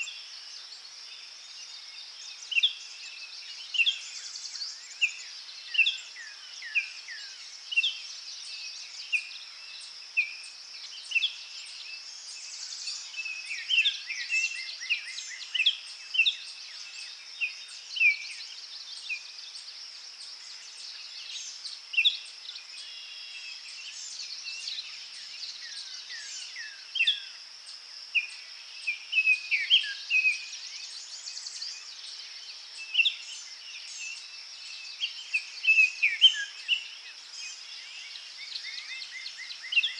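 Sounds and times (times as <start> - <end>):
high insect-like hiss: 0.0 - 39.9.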